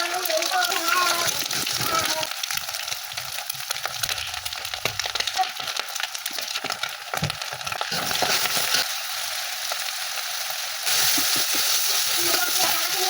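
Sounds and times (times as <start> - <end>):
noodles sizzling in hot oil: 0.0 - 13.0.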